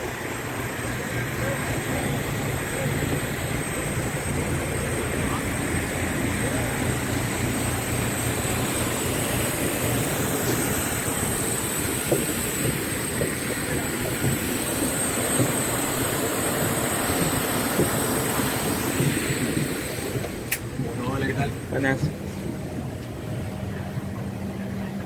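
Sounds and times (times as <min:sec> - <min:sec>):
cabin air rushing: 0:00.0 - 0:25.0.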